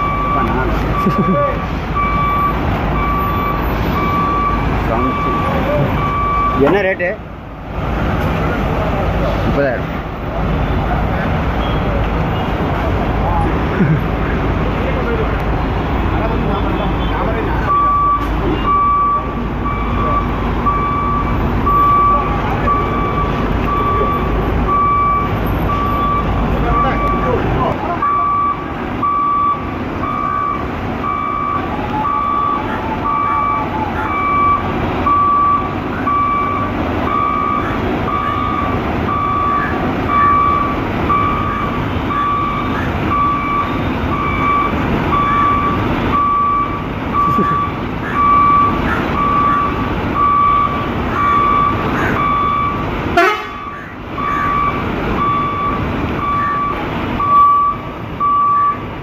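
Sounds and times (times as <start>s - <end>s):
reversing alarm beeping: 0.0s - 7.0s, 17.6s - 27.4s, 28.0s - 58.9s
diesel engine rumble: 0.0s - 59.0s.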